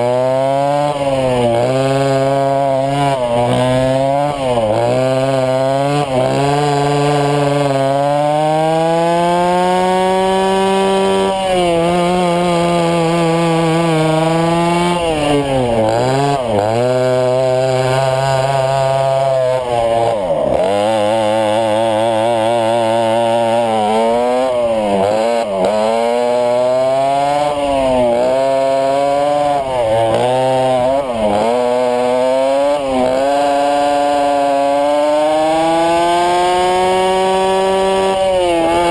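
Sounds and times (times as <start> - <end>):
kart engines running hard: 0.0 - 38.9.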